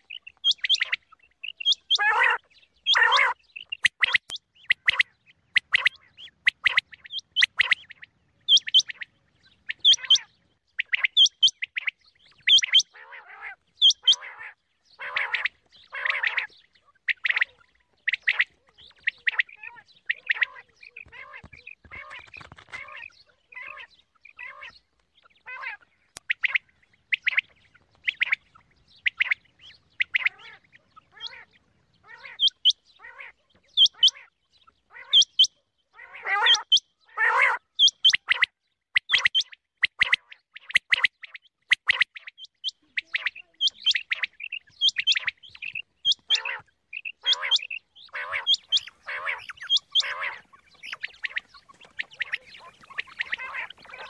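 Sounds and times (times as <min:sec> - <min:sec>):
quail chirping calls: 0:00.0 - 0:54.0.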